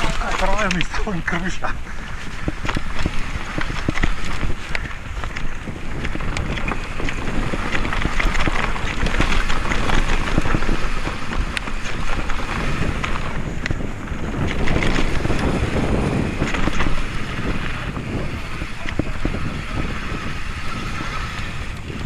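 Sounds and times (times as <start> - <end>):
bike clicks and rattles: 0.0 - 22.0
bike tyres on dirt trail: 0.0 - 22.0
wind buffeting microphone: 0.0 - 22.0.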